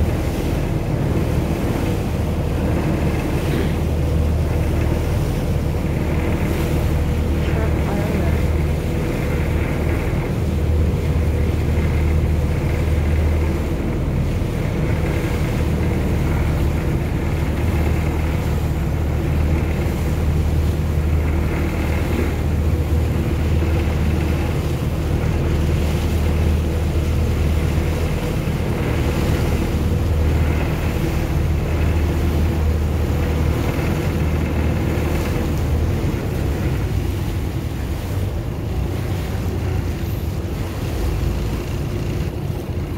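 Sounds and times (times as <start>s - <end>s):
motorboat engine drone: 0.0s - 42.9s
water rushing along hull: 0.0s - 42.9s.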